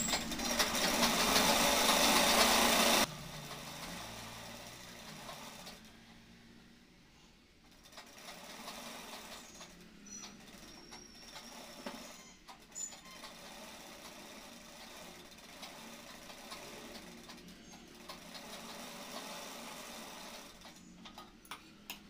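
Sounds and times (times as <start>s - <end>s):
sewing machine running: 0.0s - 5.9s, 7.7s - 21.3s.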